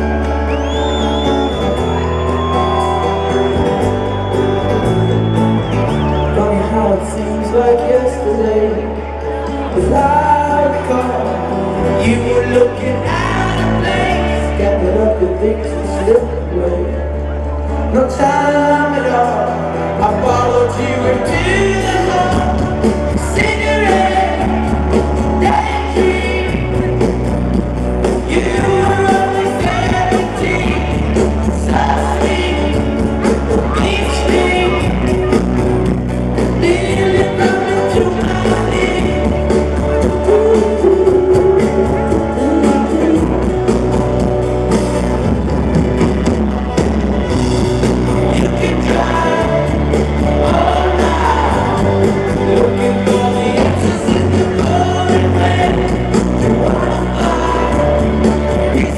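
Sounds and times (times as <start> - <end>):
rock band playing live: 0.0 - 58.9
man singing: 6.0 - 27.3, 28.0 - 45.5, 47.4 - 58.9.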